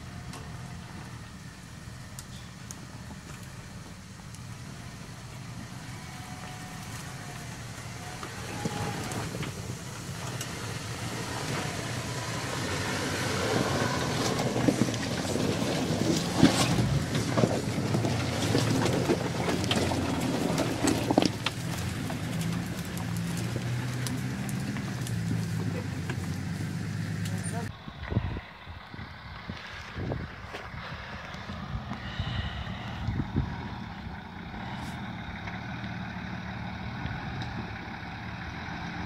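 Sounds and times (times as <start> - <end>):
stones crackling under tyres: 0.0 - 27.7, 28.9 - 39.0
off-road vehicle engine: 0.0 - 39.0.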